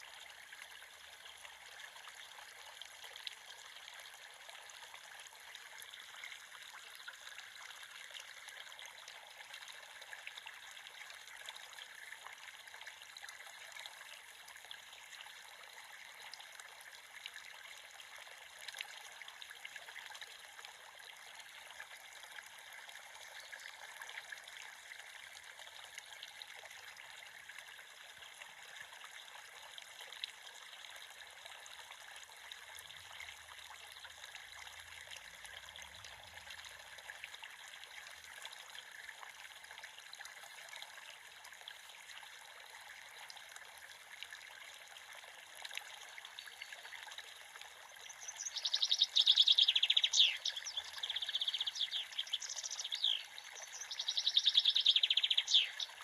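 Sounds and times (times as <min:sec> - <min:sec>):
creek water babbling over stones: 0:00.0 - 0:56.0.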